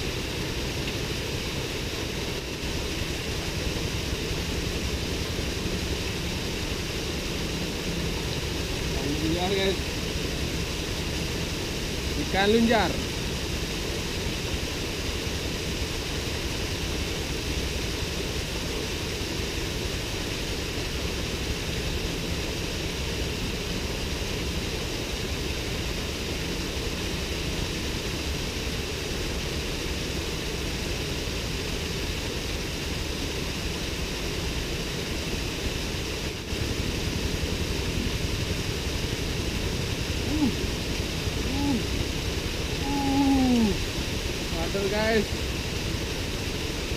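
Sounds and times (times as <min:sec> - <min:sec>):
waterfall splashing into pool: 0:00.0 - 0:46.9.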